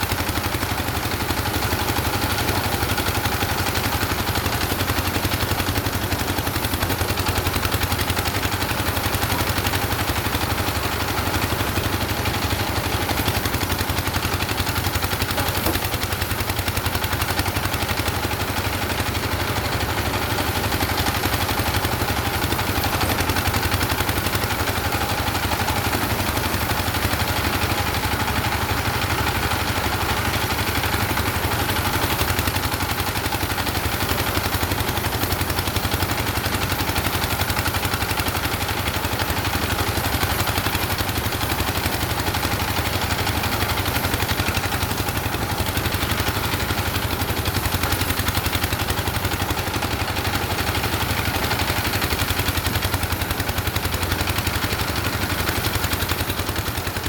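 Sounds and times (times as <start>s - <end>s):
engine chugging steadily: 0.0s - 57.0s.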